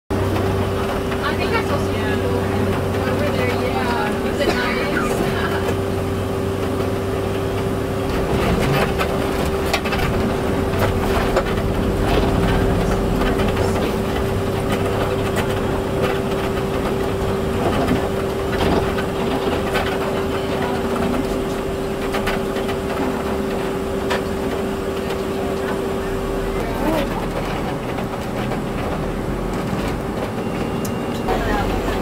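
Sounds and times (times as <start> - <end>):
vehicle running at low speed: 0.1 - 32.0.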